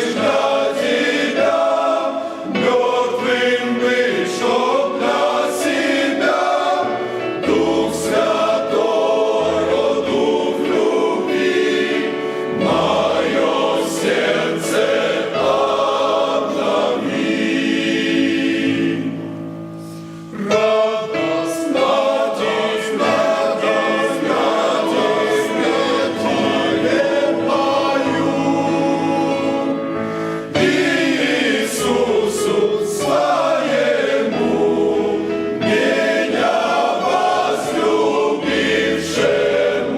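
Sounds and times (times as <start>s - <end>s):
church choir singing: 0.0s - 39.9s
instrumental accompaniment: 0.0s - 39.9s.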